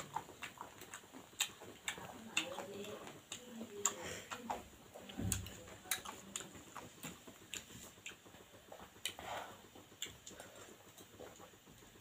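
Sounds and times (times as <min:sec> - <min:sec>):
wet lip smacks and mouth clicks: 0:00.0 - 0:11.6.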